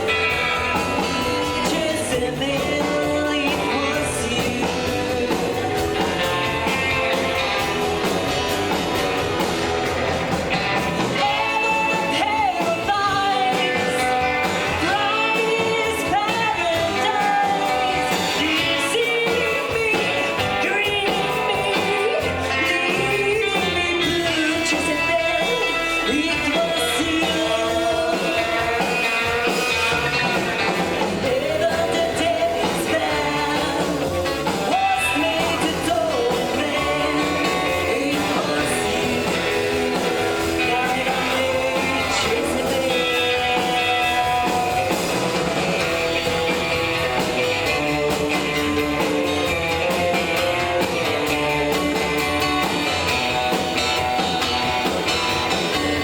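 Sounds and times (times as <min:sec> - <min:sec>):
lead singer singing: 0:00.0 - 0:08.8, 0:10.6 - 0:56.0
rockabilly band playing live: 0:00.0 - 0:56.0.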